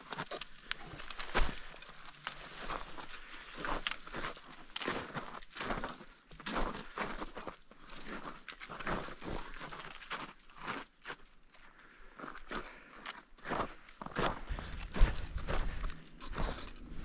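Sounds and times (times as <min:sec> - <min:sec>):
boots crunching in snow: 0:00.0 - 0:11.3, 0:12.4 - 0:17.0.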